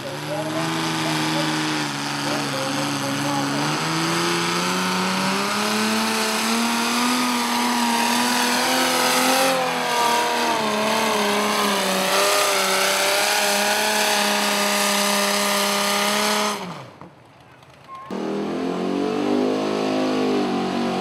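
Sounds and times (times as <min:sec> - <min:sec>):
vehicle engine at high revs: 0:00.0 - 0:21.0.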